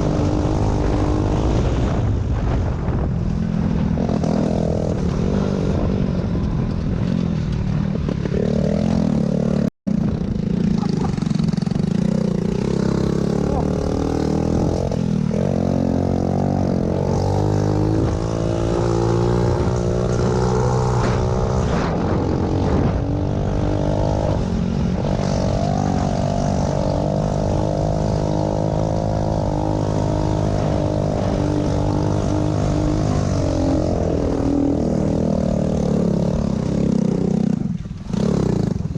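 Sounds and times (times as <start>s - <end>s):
pit bike engines revving: 0.0s - 2.3s, 3.6s - 38.9s.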